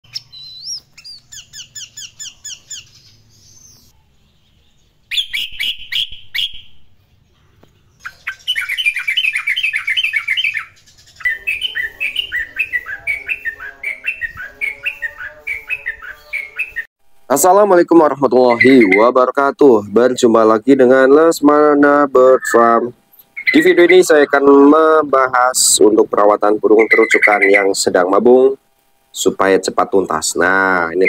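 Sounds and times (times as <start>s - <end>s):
bird chirping: 0.0s - 16.9s, 18.2s - 28.3s, 29.2s - 31.0s.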